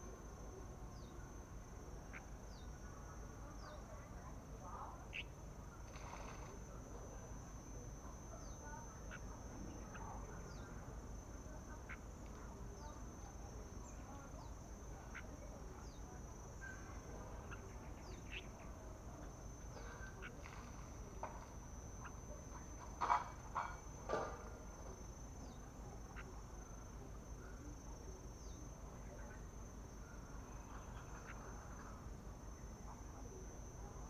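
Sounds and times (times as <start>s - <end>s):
faint birdsong chirps: 0.0s - 34.0s.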